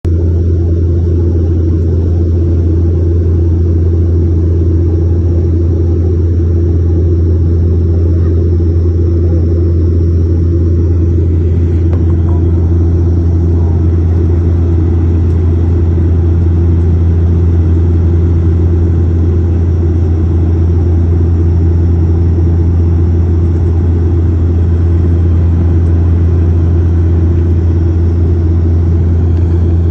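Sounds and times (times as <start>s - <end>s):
airliner cabin engine drone: 0.0s - 29.9s.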